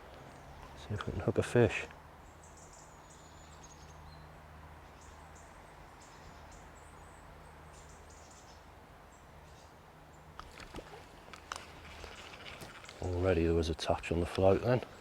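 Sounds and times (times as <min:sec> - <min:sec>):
small birds chirping: 0:02.2 - 0:15.0.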